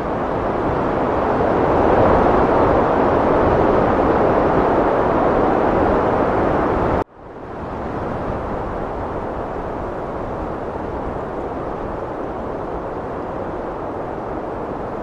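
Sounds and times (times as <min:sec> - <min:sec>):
heavy wind blowing: 0:00.0 - 0:15.0.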